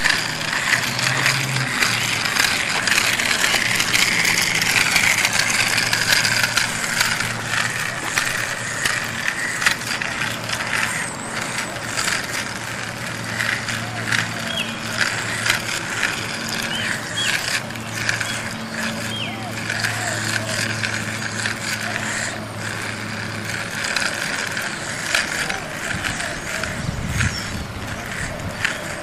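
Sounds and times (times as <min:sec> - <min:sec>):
rattling clicks: 0:00.0 - 0:29.0
toy robot motor whirring: 0:00.0 - 0:29.0
wheels rolling on asphalt: 0:00.0 - 0:29.0.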